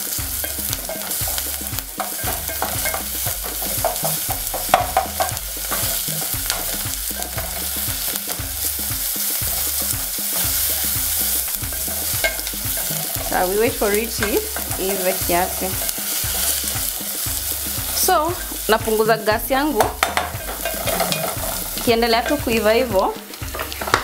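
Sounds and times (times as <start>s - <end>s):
onions sizzling in hot oil: 0.0s - 24.0s
wooden spoon scraping pot: 0.4s - 8.8s, 10.4s - 18.7s, 19.7s - 24.0s.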